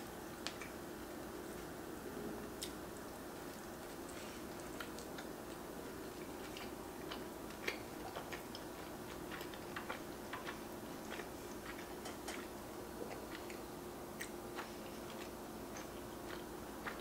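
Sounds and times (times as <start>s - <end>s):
faint steady hum: 0.0s - 17.0s
person chewing food: 3.4s - 17.0s.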